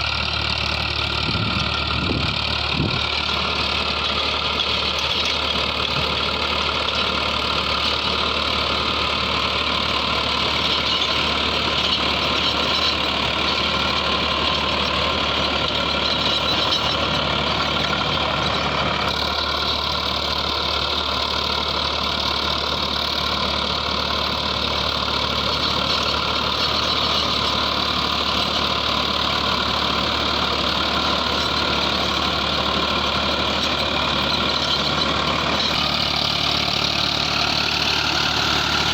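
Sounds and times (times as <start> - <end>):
diesel tractor engine under load: 0.0 - 38.9
rotavator tilling soil: 0.0 - 38.9.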